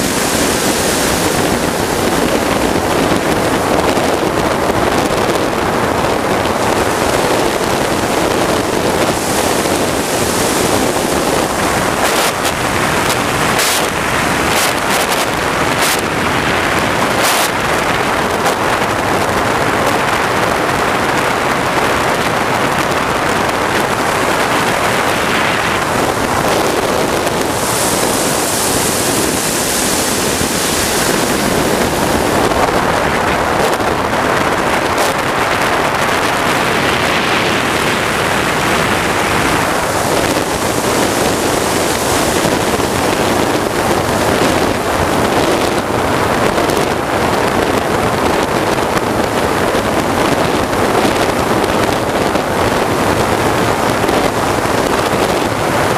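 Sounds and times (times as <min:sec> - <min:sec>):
model jet turbine rushing: 0:00.0 - 0:55.9.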